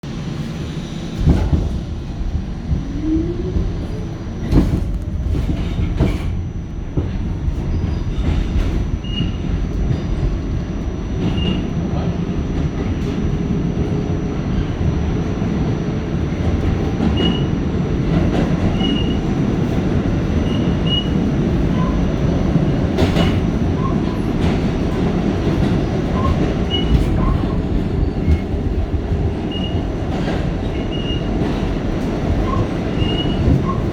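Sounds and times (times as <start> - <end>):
subway wheels rumbling on track: 0.0 - 33.9.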